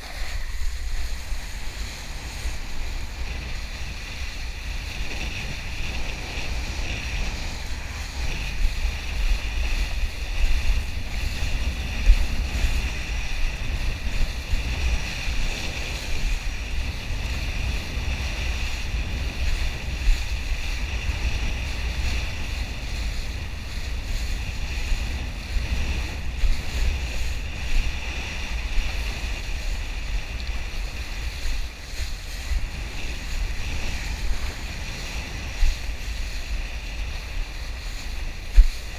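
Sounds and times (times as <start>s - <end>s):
kiteboard planing over water: 0.0s - 38.9s
wind rumbling on microphone: 0.0s - 38.9s.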